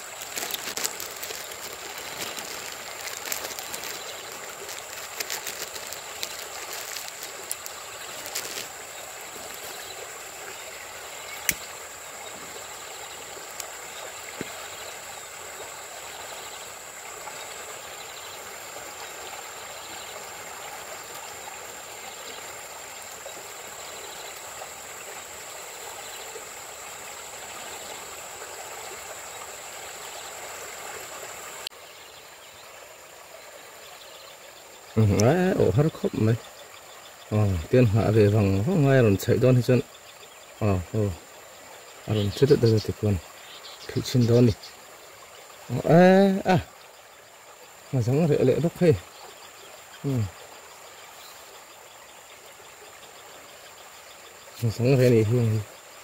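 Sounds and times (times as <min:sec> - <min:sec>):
stream water rushing and trickling: 0:00.0 - 0:56.0.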